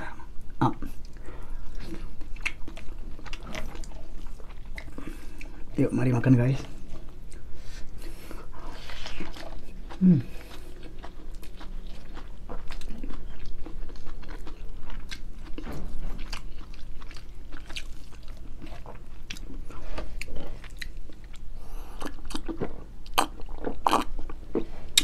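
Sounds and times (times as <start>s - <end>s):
person chewing food: 0.7s - 5.8s, 6.6s - 25.0s.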